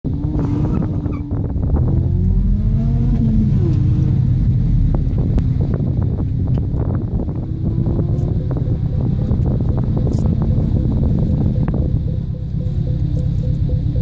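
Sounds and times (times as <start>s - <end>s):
car engine idling: 0.1s - 14.0s
car engine revving: 0.1s - 14.0s.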